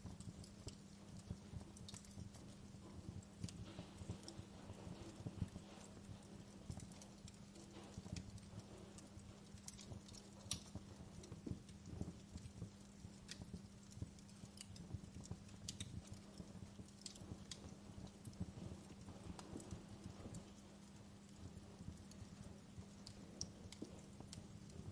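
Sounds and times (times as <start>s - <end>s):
steady low hum: 0.0s - 24.9s
wood fire crackling: 0.0s - 24.9s.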